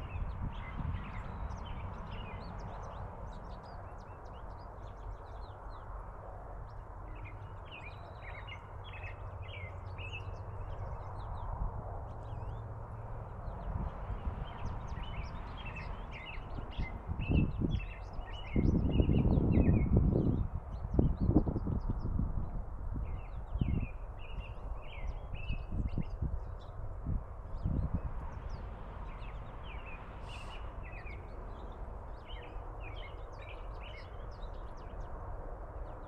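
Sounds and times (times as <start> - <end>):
small birds chirping: 0.0 - 6.0, 6.6 - 26.8, 27.5 - 36.0.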